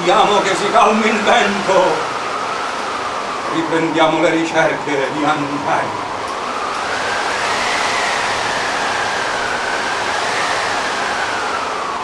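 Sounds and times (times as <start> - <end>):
howling wind effect: 0.0 - 12.0.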